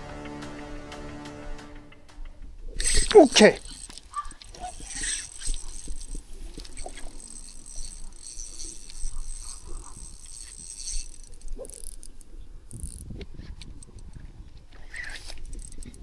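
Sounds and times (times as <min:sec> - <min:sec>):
fishing reel cranking rattle: 0:02.8 - 0:16.0.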